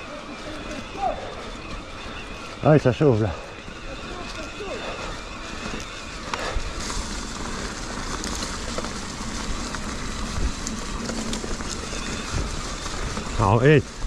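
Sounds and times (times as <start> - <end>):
bike tyre and wind rush: 0.0 - 14.0.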